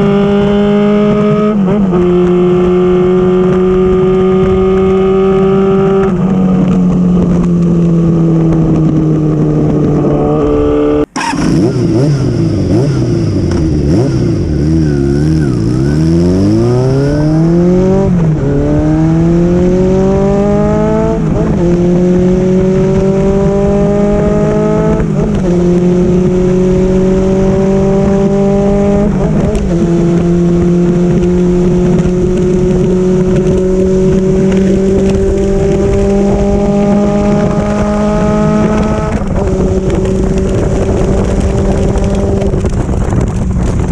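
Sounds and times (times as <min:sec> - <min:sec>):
motorcycle engine revving through gears: 0:00.0 - 0:43.9.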